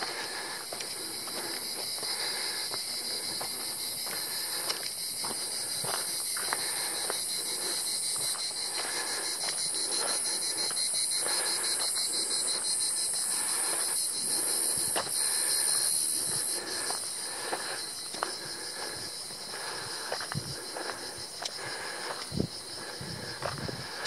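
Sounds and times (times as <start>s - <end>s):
cicadas chorus: 0.0s - 24.0s
footsteps on gravel path: 0.0s - 24.0s.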